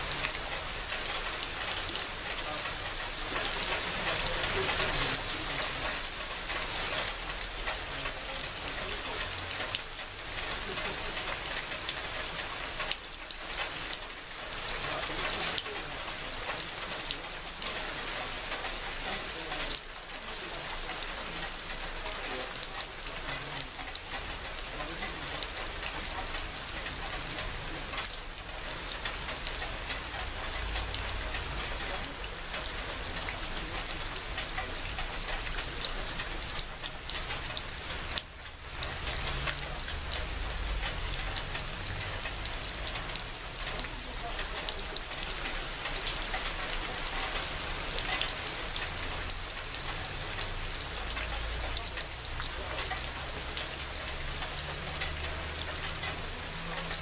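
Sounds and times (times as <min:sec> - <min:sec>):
drops dripping off corrugated roof: 0:00.0 - 0:57.0
steady rain falling: 0:00.0 - 0:57.0.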